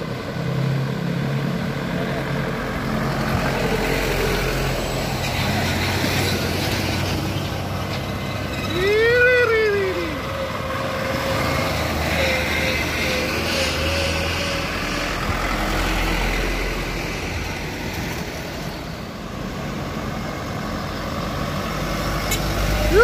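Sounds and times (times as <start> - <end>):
trucks driving past: 0.0 - 23.0.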